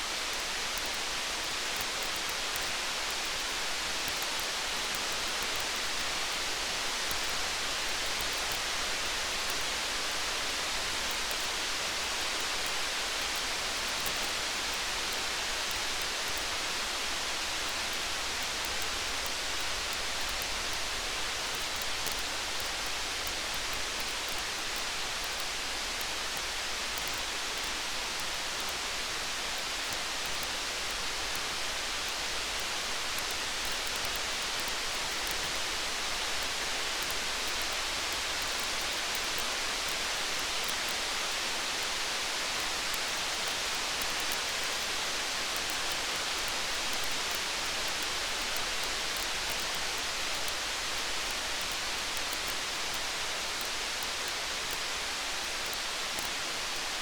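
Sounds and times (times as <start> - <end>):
faint campfire crackles: 0.0 - 57.0.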